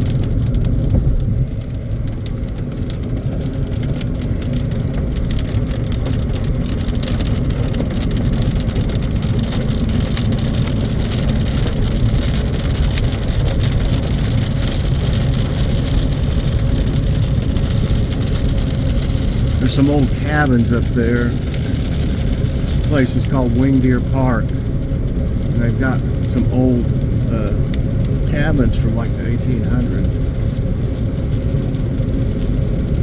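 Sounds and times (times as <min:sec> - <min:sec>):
engine and tyres on wet road: 0:00.0 - 0:33.0
rain pattering on car: 0:00.0 - 0:33.0.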